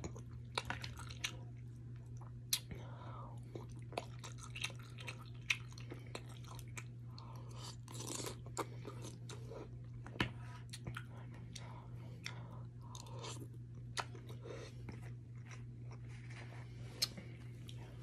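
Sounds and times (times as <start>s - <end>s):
wet chewing and mouth smacks: 0.0s - 2.8s, 3.5s - 16.1s, 16.9s - 17.8s
steady low hum: 0.0s - 18.0s.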